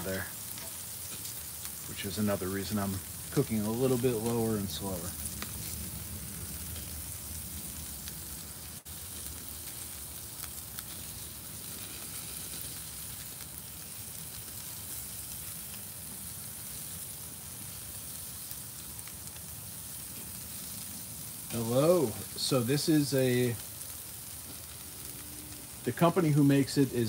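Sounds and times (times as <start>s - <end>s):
meat sizzling on grill: 0.0s - 27.0s.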